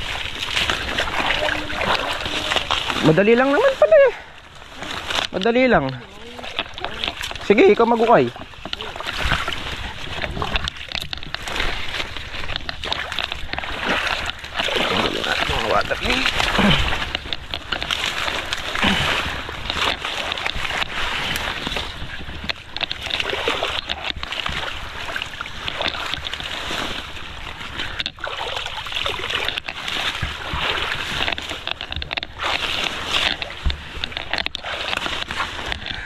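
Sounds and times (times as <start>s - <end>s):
water rushing and sloshing: 0.0s - 36.0s.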